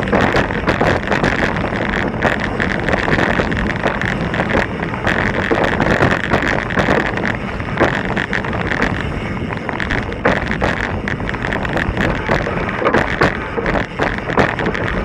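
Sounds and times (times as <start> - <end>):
bike tyres knocking on rocks: 0.0 - 15.0
wind buffeting microphone: 0.0 - 15.0.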